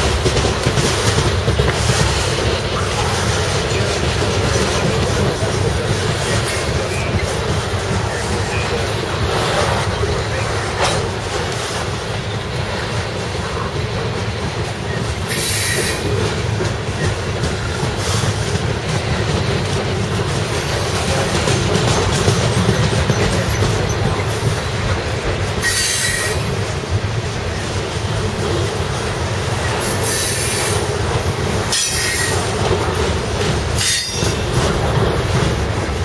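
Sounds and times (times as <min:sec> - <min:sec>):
steel wheels rumbling on rail: 0:00.0 - 0:36.0.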